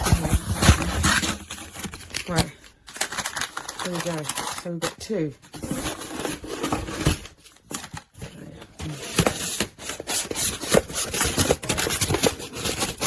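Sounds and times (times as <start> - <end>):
rummaging in cardboard box: 0.0 - 13.0.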